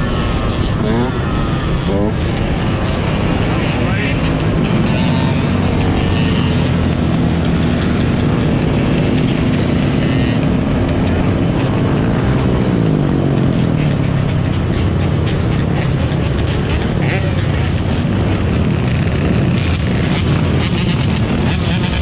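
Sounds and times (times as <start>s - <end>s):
dirt bike engines running: 0.0s - 22.0s.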